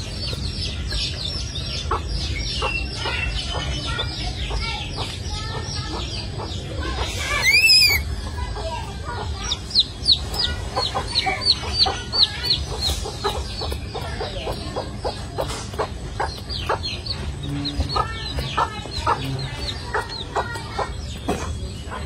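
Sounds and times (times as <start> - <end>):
birds peeping high chirps: 0.0 - 22.0.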